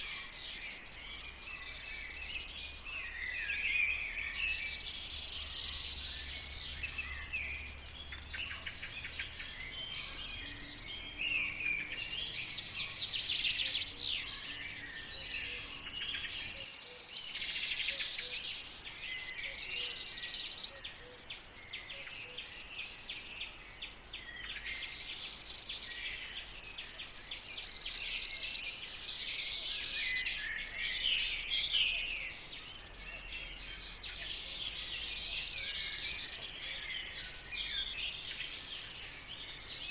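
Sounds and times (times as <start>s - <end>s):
wild birds singing and calling: 0.0s - 39.9s.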